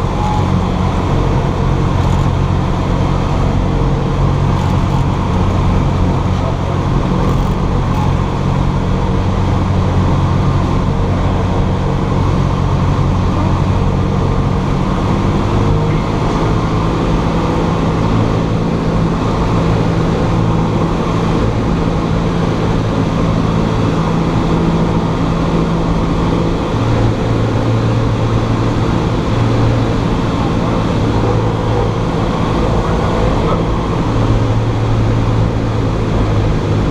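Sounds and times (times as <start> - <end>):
propeller plane engine droning: 0.0 - 36.9.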